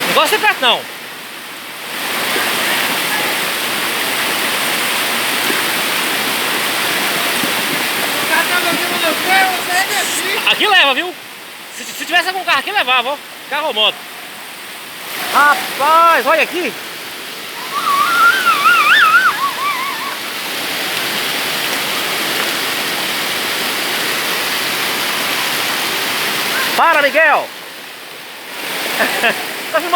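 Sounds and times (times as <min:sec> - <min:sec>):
floodwater rushing: 0:00.0 - 0:29.9
heavy rain: 0:00.0 - 0:29.9.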